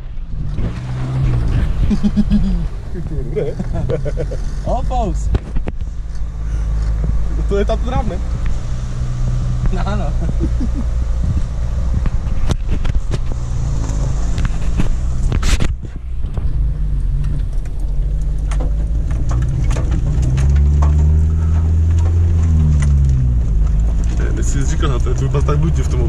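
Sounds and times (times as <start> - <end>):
body and suspension rattling: 0.0 - 26.0
vehicle engine running: 0.0 - 26.0.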